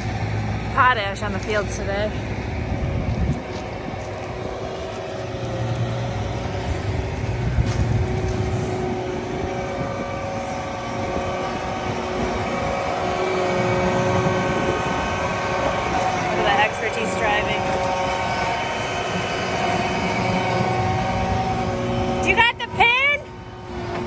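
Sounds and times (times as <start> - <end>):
engine whine: 0.0 - 24.0
tractor diesel engine rumbling: 0.0 - 24.0.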